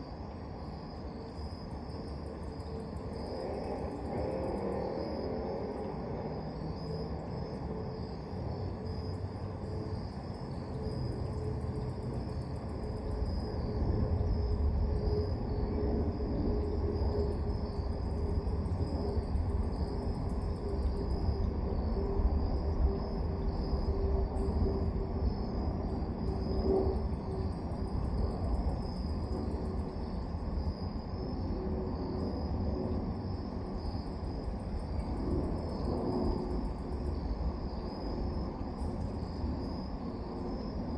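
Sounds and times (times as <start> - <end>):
crickets chirping: 0.0 - 40.9
pulsing insect call: 0.0 - 40.9.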